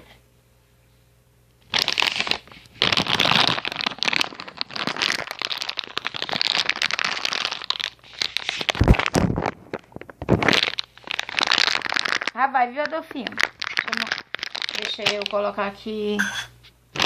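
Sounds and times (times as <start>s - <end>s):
crinkling and rustling: 1.6s - 15.6s.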